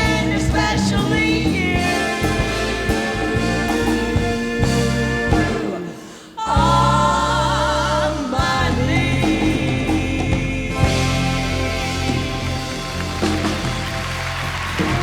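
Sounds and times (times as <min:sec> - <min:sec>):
women singing with vibrato: 0:00.0 - 0:13.0
band playing: 0:00.0 - 0:15.0.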